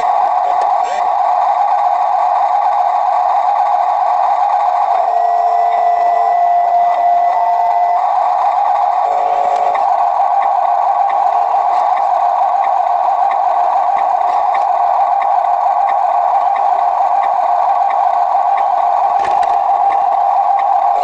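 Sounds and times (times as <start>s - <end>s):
toy motor whine: 0.0s - 21.0s.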